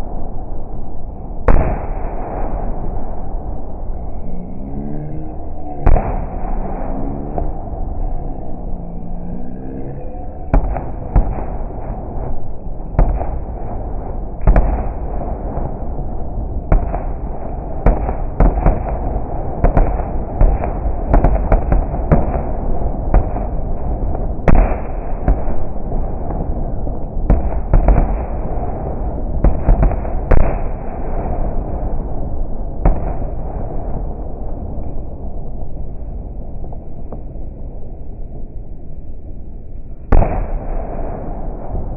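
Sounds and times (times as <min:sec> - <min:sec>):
low rumble: 0:00.0 - 0:41.9
slowed fireworks bangs: 0:00.0 - 0:41.9.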